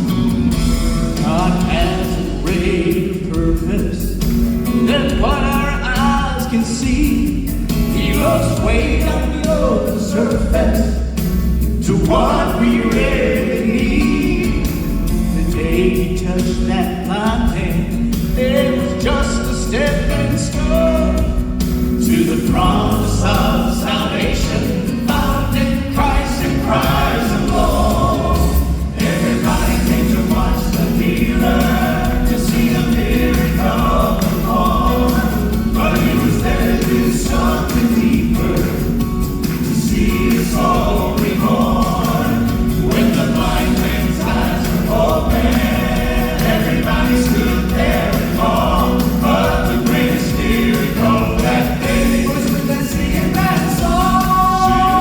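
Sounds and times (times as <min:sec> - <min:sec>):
gospel group singing in harmony: 0:00.0 - 0:55.0
instrumental accompaniment: 0:00.0 - 0:55.0.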